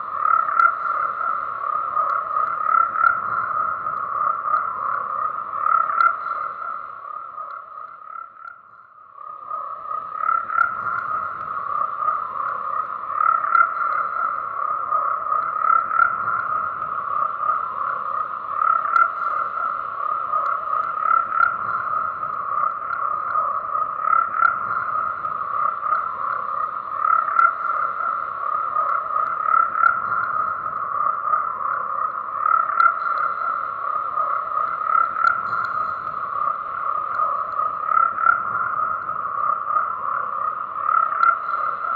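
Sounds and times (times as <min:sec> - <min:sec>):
chorus of frogs calling: 0:00.0 - 0:41.9.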